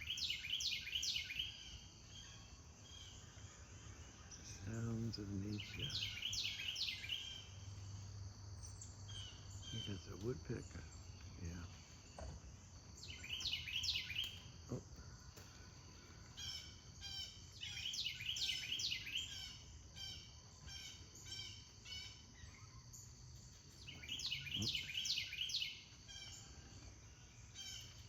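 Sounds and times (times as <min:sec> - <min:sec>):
birds chirping: 0:00.0 - 0:28.0
low outdoor hum: 0:00.0 - 0:28.0.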